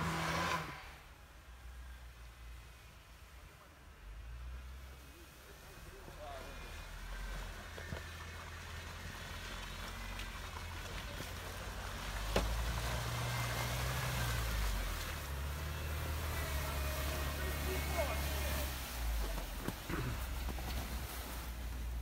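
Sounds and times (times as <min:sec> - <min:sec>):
off-road vehicle engine pulling: 0:00.0 - 0:22.0.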